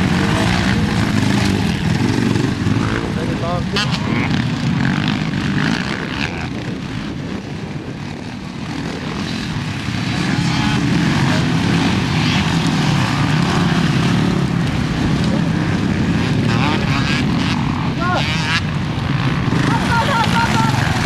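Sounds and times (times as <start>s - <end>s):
motorcycles revving past: 0.0s - 21.0s.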